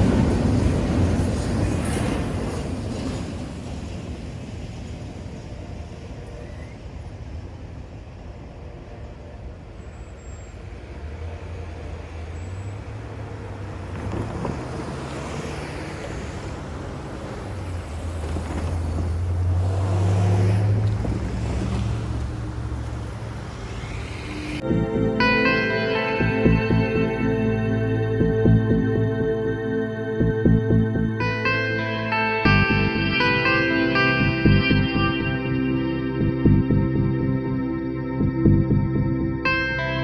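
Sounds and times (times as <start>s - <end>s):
vehicles driving past: 0.0s - 40.0s.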